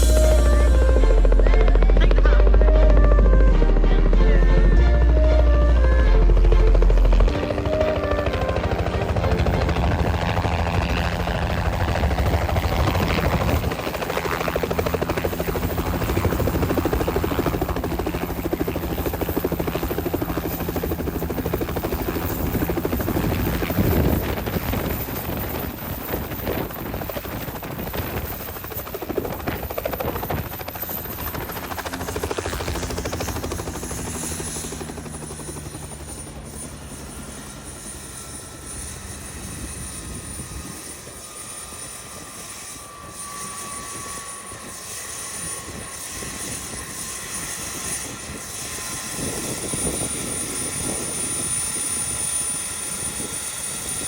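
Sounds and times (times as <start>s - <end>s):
helicopter humming: 0.0s - 54.0s.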